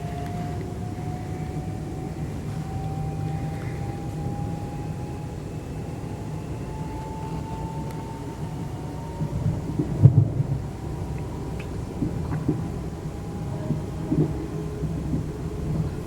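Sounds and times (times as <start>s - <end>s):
traction motor whine: 0.0s - 16.0s
train wheels rumbling on rails: 0.0s - 16.0s.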